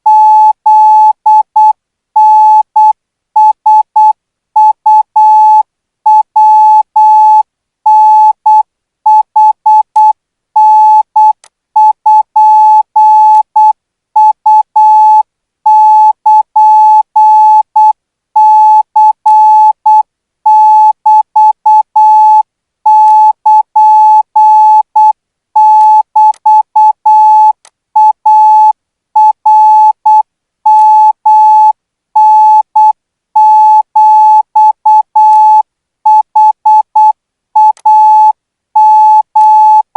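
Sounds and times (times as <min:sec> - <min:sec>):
morse code beeps: 0:00.1 - 0:39.9.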